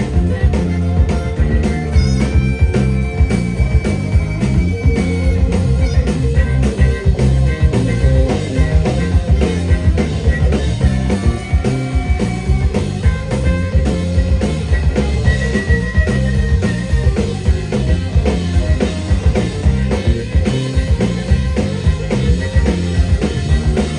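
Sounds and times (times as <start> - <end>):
bass guitar: 0.0 - 23.9
drum beat: 0.0 - 23.9
lead guitar holding long notes: 0.0 - 23.9.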